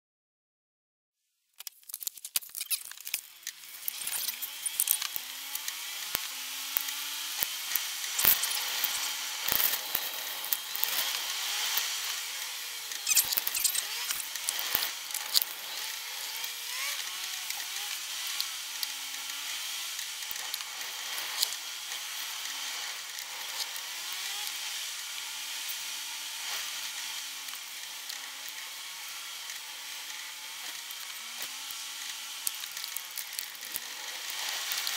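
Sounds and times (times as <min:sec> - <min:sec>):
sharp clicks and rattles: 0:01.6 - 0:24.5, 0:29.5 - 0:34.9
sped-up engine whine: 0:03.2 - 0:34.9.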